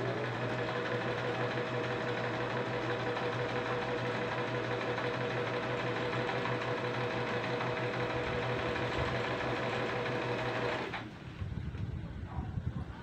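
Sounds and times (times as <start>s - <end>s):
sewing machine stitching: 0.0s - 11.1s.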